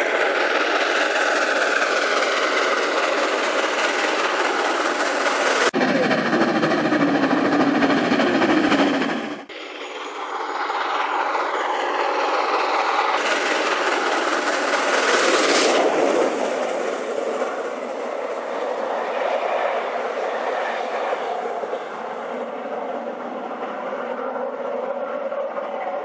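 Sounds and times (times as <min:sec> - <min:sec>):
train wheels on track: 0:00.0 - 0:26.0.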